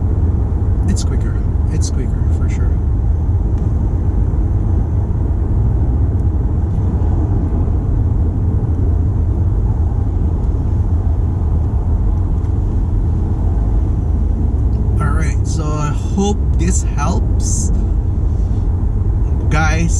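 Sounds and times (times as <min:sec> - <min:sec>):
car engine and road noise: 0:00.0 - 0:19.9.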